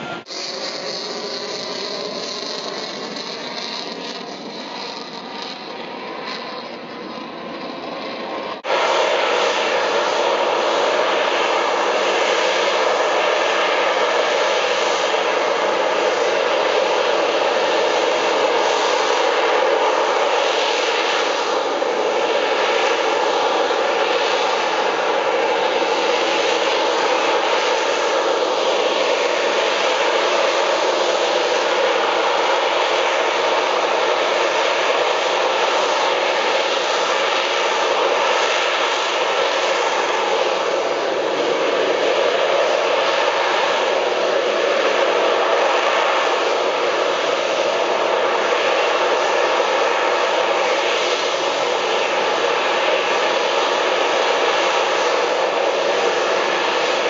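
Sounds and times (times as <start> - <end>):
hovering jet engine rush: 0.0 - 57.0.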